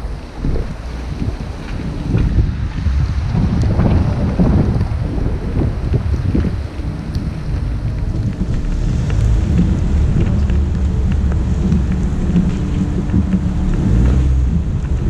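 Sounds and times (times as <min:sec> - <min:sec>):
car engine: 0:00.0 - 0:15.0
tyres on wet pavement: 0:00.0 - 0:15.0
wind buffeting microphone: 0:00.0 - 0:15.0.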